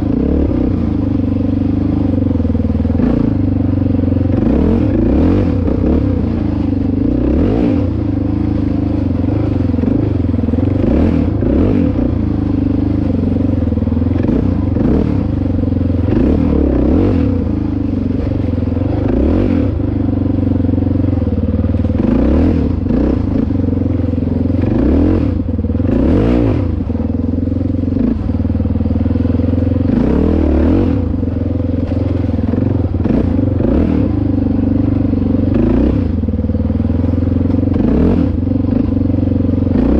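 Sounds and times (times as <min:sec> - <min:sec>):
dirt bike engine revving: 0:00.0 - 0:39.9
bike rattling: 0:01.0 - 0:39.9.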